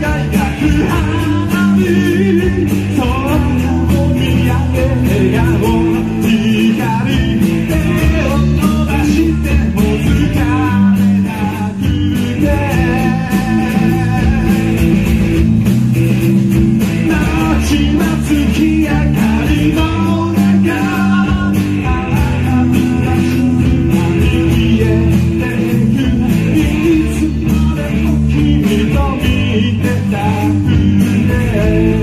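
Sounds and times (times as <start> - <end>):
man singing: 0.0 - 15.4, 16.7 - 32.0
electric guitar: 0.0 - 32.0
live rock band: 0.0 - 32.0
strummed acoustic guitar: 0.0 - 32.0.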